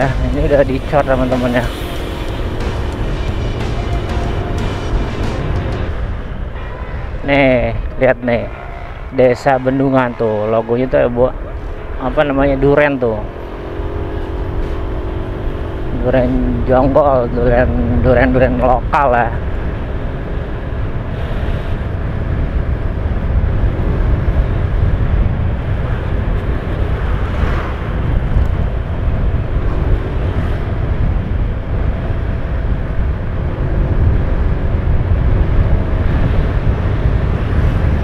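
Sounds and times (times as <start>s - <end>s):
engine and tyre rumble: 0.0s - 38.0s
wind buffeting microphone: 0.0s - 38.0s.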